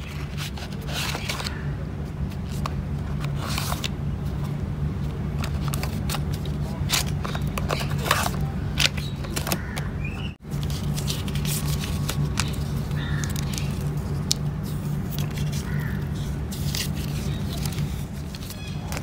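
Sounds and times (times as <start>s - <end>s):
paper rustling and crinkling: 0.0s - 9.7s, 10.4s - 19.0s
steady low hum: 0.0s - 19.0s.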